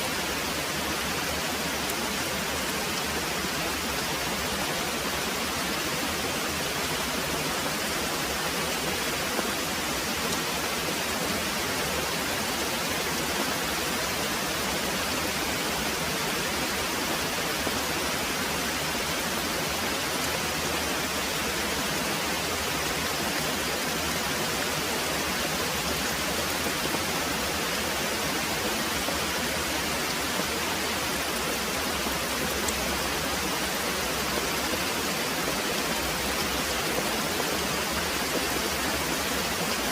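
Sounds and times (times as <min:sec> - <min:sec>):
very heavy rain pouring: 0:00.0 - 0:39.9.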